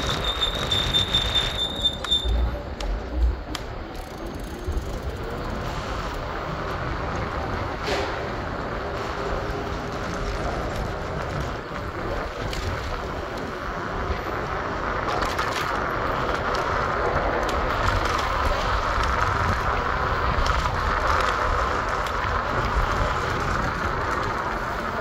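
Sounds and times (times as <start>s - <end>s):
city street traffic hum: 0.0s - 25.0s
wind rushing on microphone: 0.0s - 25.0s.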